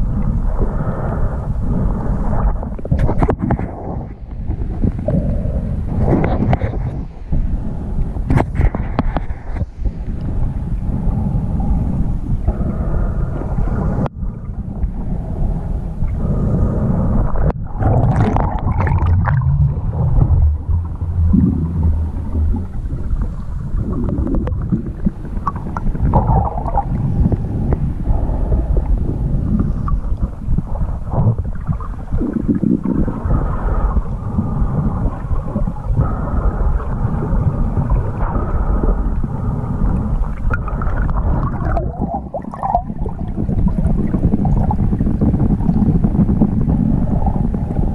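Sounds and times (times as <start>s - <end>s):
muffled underwater rumble: 0.0s - 47.9s.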